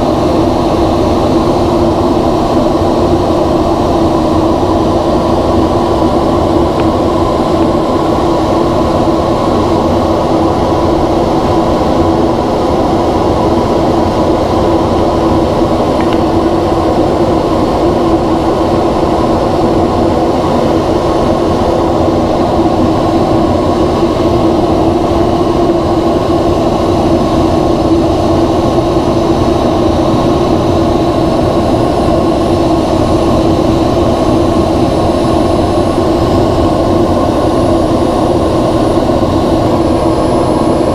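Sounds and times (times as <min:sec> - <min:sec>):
aircraft cockpit engine rumble: 0:00.0 - 0:40.9.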